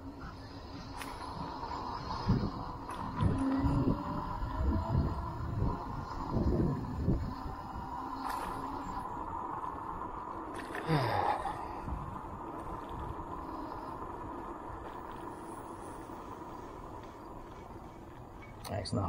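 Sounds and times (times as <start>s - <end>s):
electric motor whine: 0.0s - 17.3s
wind buffeting microphone: 0.0s - 19.0s.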